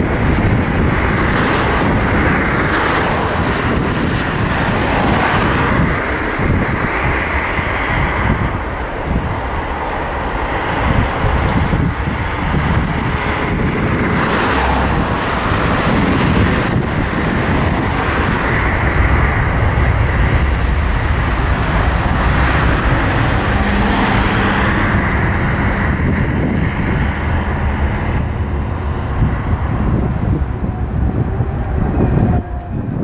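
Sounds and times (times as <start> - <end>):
jet engines at takeoff: 0.0 - 33.0.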